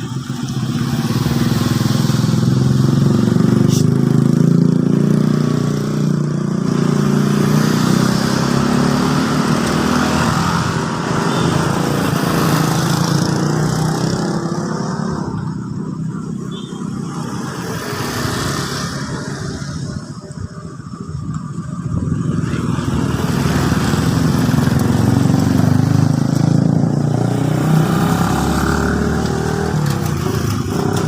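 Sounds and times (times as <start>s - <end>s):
outdoor noise: 0.0s - 31.0s.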